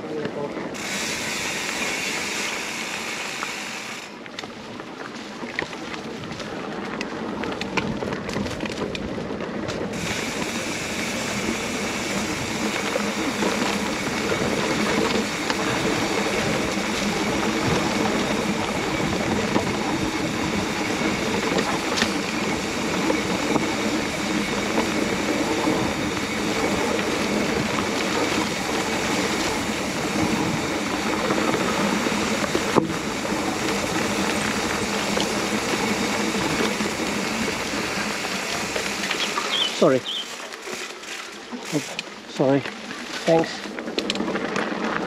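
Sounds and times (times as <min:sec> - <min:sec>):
bike tyres rumbling on dirt: 0:00.0 - 0:45.0.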